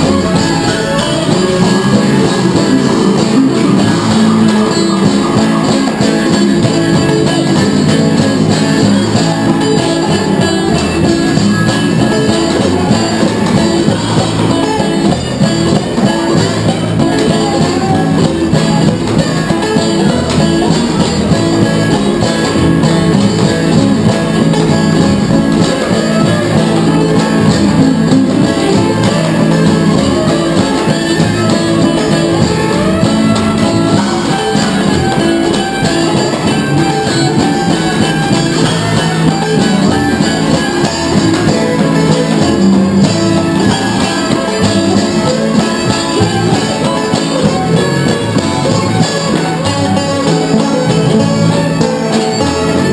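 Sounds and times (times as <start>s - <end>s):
banjo: 0.0s - 52.9s
double bass: 0.0s - 52.9s
fiddle: 0.0s - 52.9s
percussion keeping time: 0.0s - 52.9s.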